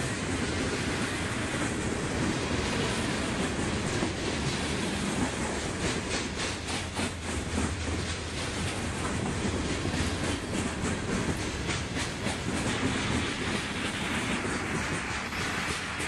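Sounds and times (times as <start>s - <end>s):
train wheels rumbling on rails: 0.0s - 16.0s
wheels clacking over rail joints: 0.0s - 16.0s.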